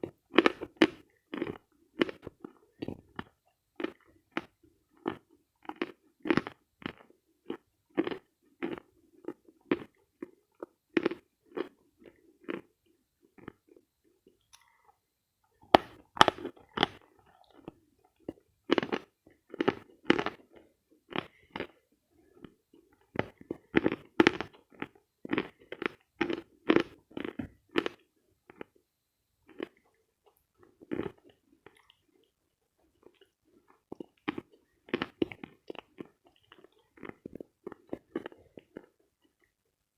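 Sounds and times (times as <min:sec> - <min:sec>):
person chewing crunchy chalk: 0:00.0 - 0:15.0, 0:15.7 - 0:28.8, 0:29.4 - 0:39.5.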